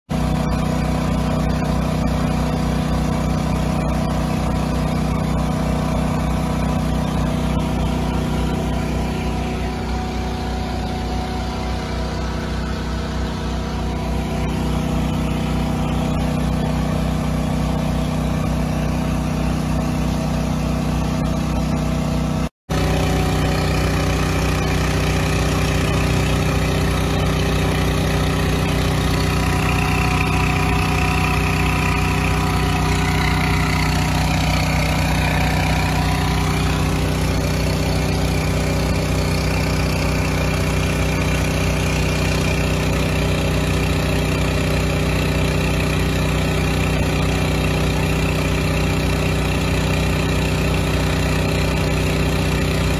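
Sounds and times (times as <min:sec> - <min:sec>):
engine idling: 0:00.1 - 0:52.9.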